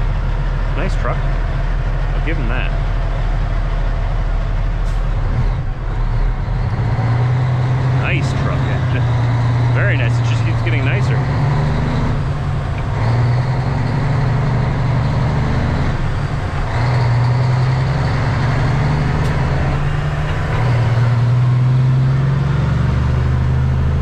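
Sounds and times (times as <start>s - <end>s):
road noise: 0.0s - 24.0s
truck diesel engine hum: 0.0s - 24.0s.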